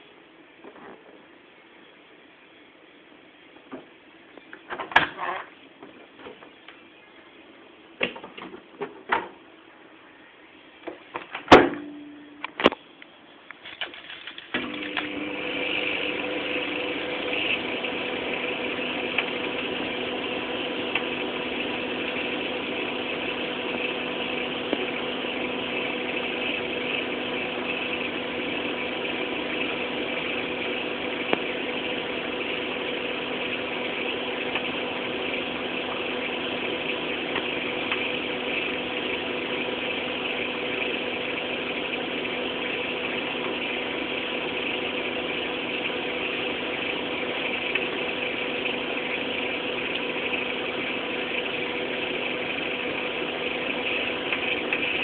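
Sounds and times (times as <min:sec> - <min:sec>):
microwave oven humming: 0:06.4 - 0:13.2, 0:14.2 - 0:55.0.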